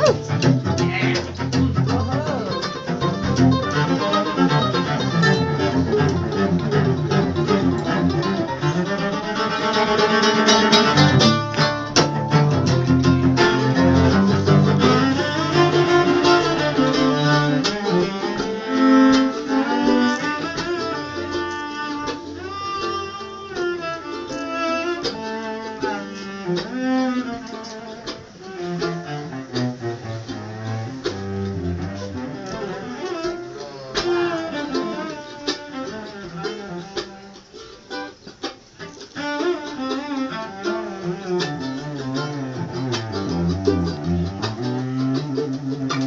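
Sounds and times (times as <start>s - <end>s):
bowed cello with sliding notes: 0.0s - 46.0s
plucked strings: 0.0s - 46.0s.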